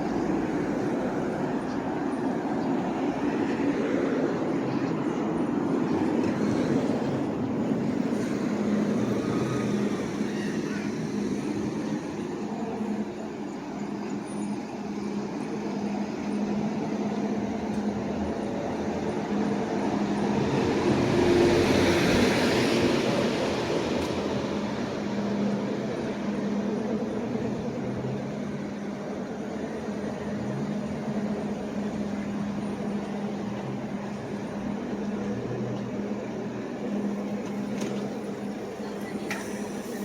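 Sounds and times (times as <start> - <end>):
faint voices: 0.0 - 21.2, 25.0 - 40.0
traffic engine hum: 0.0 - 40.0.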